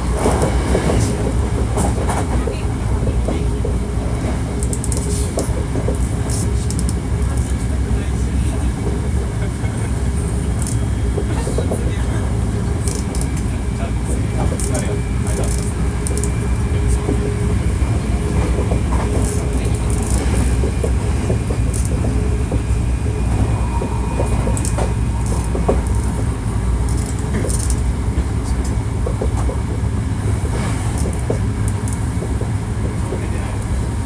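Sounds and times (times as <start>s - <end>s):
electric train running on rails: 0.0s - 34.0s.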